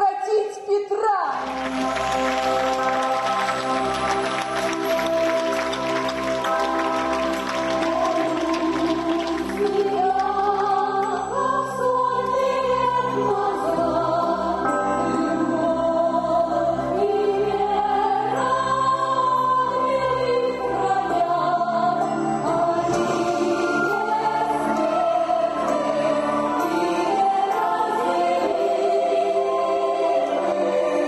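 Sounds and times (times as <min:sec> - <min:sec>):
choir singing long notes: 0:01.3 - 0:31.0.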